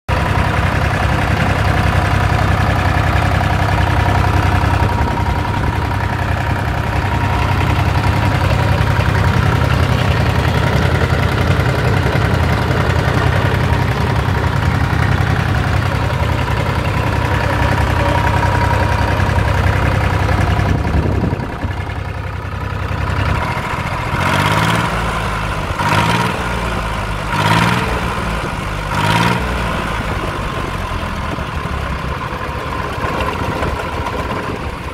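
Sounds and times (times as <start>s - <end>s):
diesel engine running and revving: 0.1s - 34.9s.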